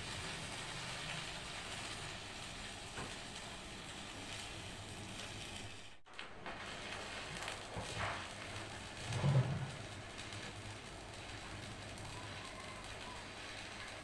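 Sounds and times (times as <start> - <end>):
welding arc burning: 0.0 - 14.0.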